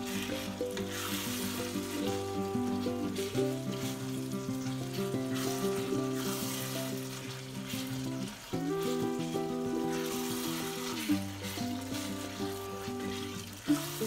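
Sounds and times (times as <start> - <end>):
background music with held chords: 0.0 - 14.0
meat sizzling in a frying pan: 0.0 - 14.0.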